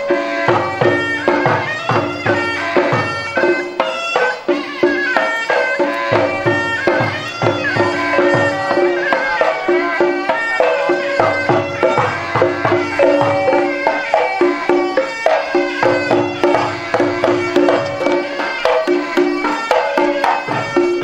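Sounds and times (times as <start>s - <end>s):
drum strokes: 0.0s - 21.0s
reedy oboe melody: 0.0s - 21.0s.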